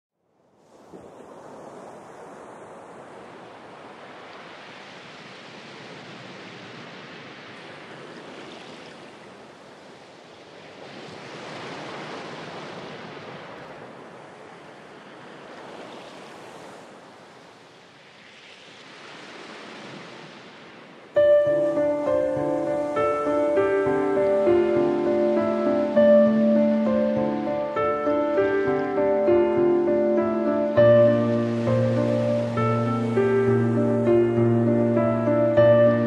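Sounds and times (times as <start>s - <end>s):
ocean surf breaking on beach: 0.6s - 36.0s.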